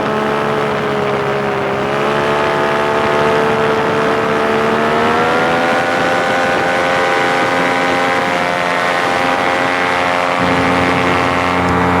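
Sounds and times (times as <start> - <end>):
low engine hum: 0.0 - 12.0
paramotor engine and propeller: 0.0 - 12.0.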